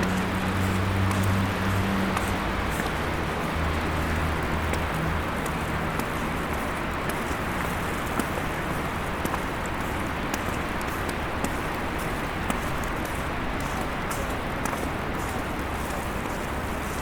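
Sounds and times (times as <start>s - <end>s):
traffic with tyre hiss: 0.0s - 17.0s
vehicle engine hum: 0.0s - 17.0s.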